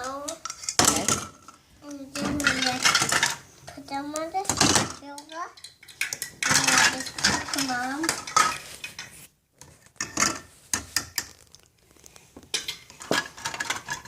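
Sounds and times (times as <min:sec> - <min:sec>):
toy pots and pans clattering: 0:00.0 - 0:09.2, 0:09.9 - 0:11.4, 0:12.5 - 0:14.0.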